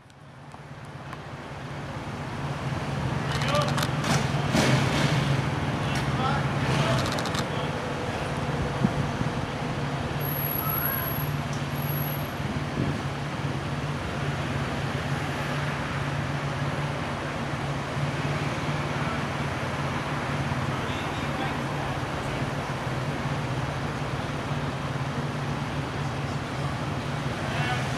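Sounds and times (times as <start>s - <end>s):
street noise: 0.0s - 27.9s.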